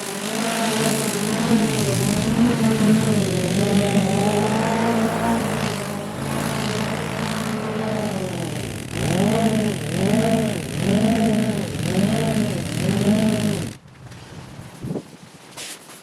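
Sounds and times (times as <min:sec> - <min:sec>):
small petrol engine running: 0:00.0 - 0:13.8.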